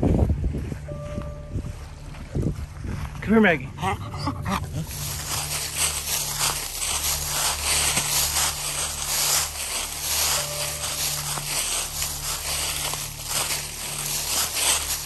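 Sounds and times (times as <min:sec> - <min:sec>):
footsteps crunching dry leaves: 0:00.0 - 0:15.0
low steady hum: 0:00.0 - 0:15.0.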